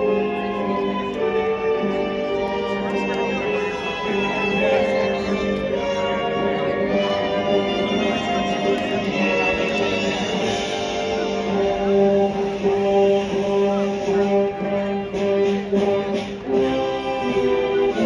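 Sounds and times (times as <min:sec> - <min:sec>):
music with long held notes: 0:00.0 - 0:18.0.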